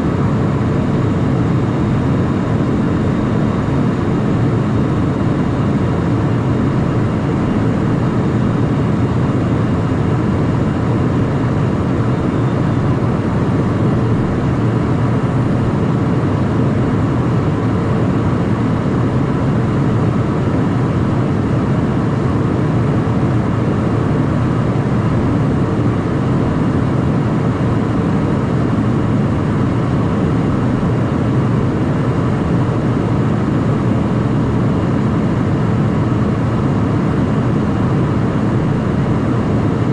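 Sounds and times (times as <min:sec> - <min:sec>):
jet engine cockpit noise: 0:00.0 - 0:39.9.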